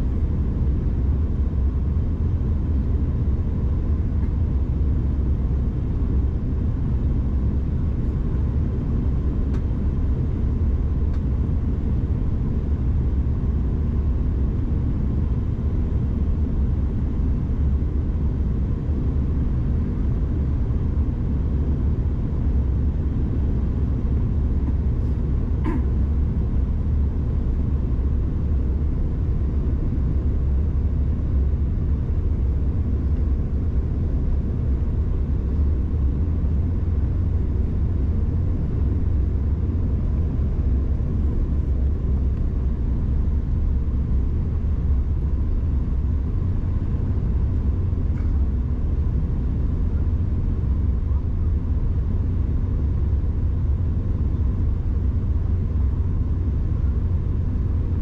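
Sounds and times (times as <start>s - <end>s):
airflow over aircraft fuselage: 0.0s - 58.0s
jet engines droning: 0.0s - 58.0s.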